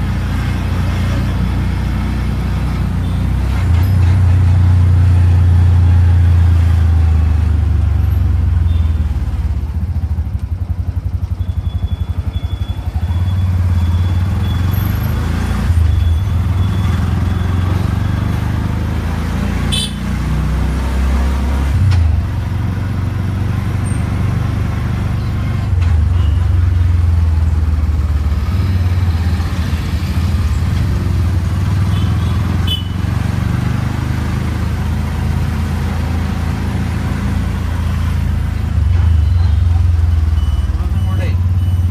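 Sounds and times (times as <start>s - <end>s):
autorickshaw engine rumbling: 0.0s - 41.9s.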